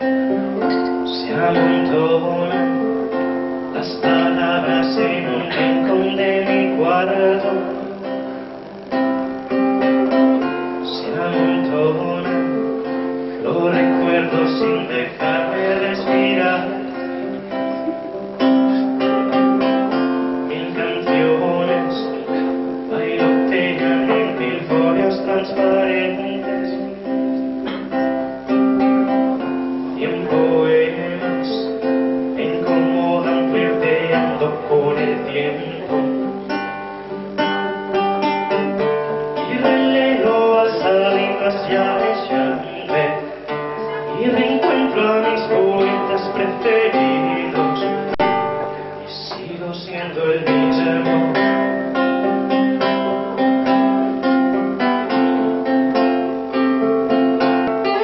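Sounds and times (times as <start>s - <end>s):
classical guitar solo: 0.0s - 58.0s.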